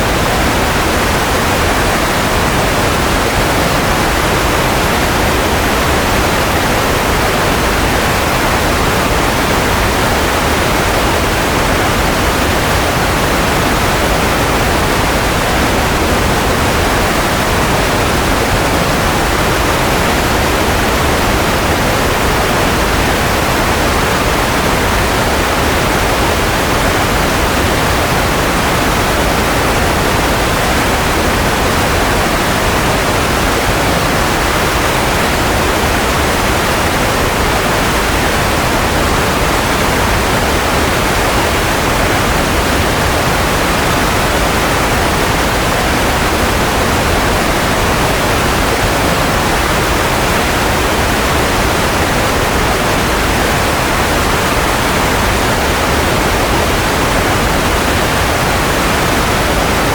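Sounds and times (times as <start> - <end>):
white noise: 0.0 - 59.9.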